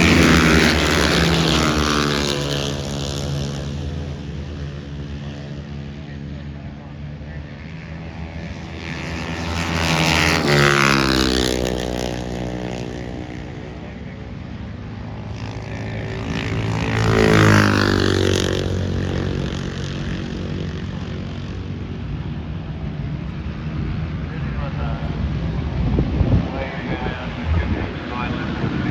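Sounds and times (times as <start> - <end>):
high-revving engines passing: 0.0 - 28.9.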